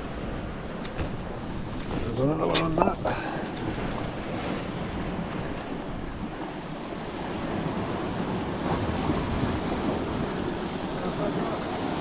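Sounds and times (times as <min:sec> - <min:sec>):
surf breaking against rocks: 0:00.0 - 0:12.0
wind buffeting microphone: 0:00.0 - 0:12.0.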